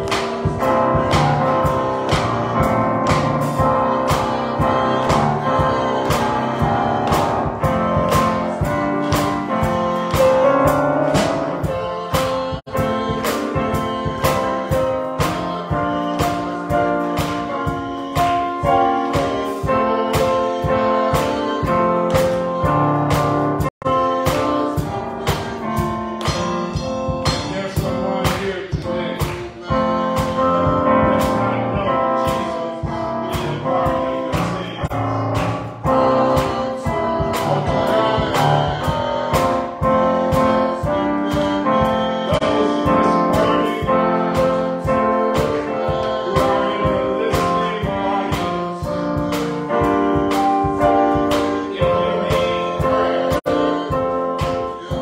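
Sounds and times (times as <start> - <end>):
gospel music on keyboard: 0.0 - 55.0
people singing: 0.0 - 55.0.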